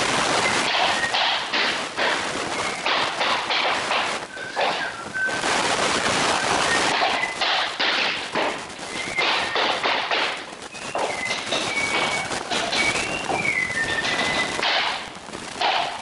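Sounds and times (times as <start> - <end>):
wooden floor planks clattering: 0.5 - 5.3, 6.7 - 16.0.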